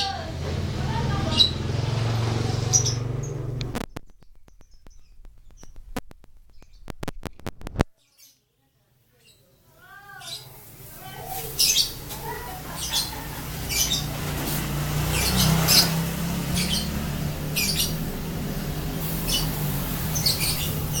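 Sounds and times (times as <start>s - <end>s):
motorcycle engine humming: 0.0s - 7.8s, 11.0s - 21.0s.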